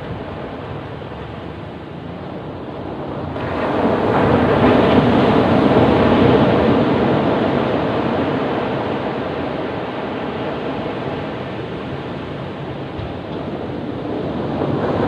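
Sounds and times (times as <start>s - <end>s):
ocean wave breaking on beach: 2.8s - 15.0s.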